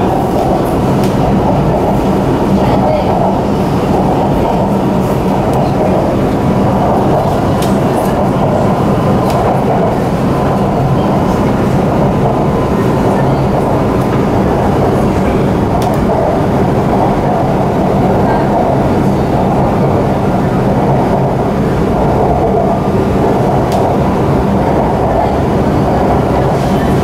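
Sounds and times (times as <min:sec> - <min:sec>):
train rumbling at speed: 0:00.0 - 0:27.0.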